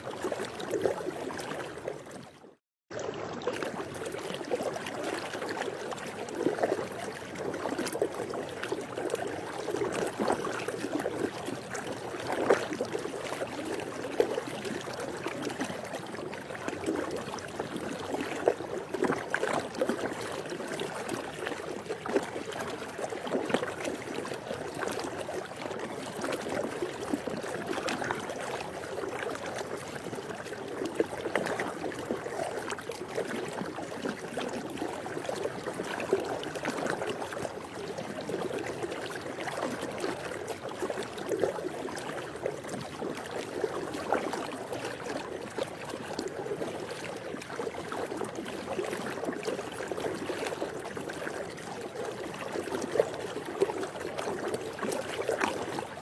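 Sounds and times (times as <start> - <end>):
pool water lapping and splashing: 0.0 - 56.0.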